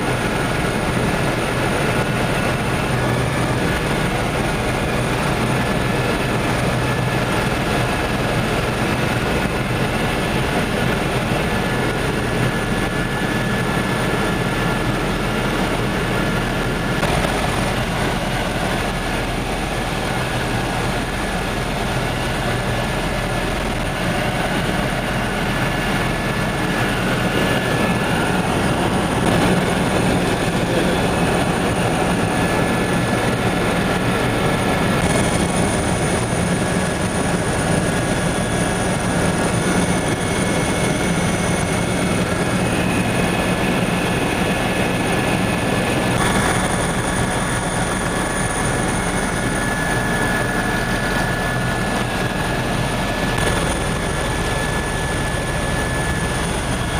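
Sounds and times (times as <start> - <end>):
helicopter engine and rotor noise: 0.0 - 56.9.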